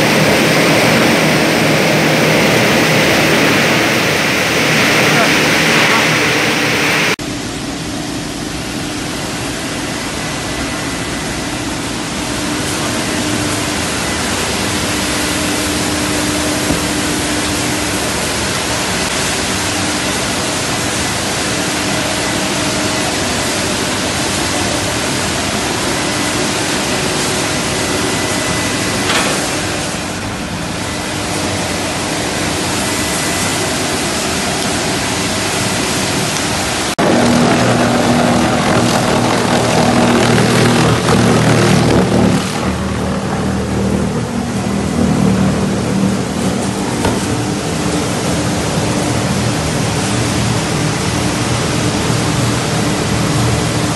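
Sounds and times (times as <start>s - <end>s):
loud steady rushing noise: 0.0s - 53.9s.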